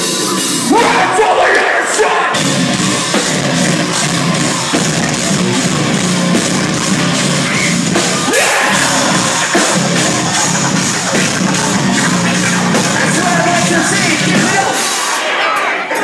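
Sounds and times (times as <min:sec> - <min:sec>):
distorted electric guitars: 0:00.0 - 0:16.0
drum kit beat: 0:00.0 - 0:16.0.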